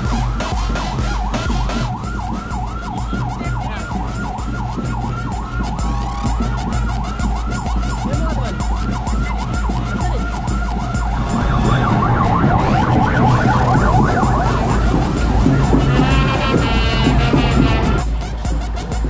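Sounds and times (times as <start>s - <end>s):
car engines idling: 0.0s - 18.0s
electronic sirens yelping: 0.0s - 18.0s.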